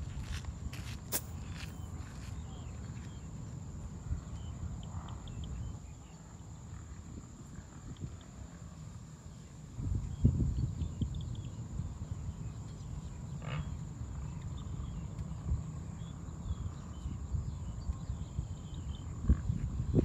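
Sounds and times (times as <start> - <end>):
wind buffeting microphone: 0.0 - 8.5, 9.7 - 13.3, 14.0 - 20.0.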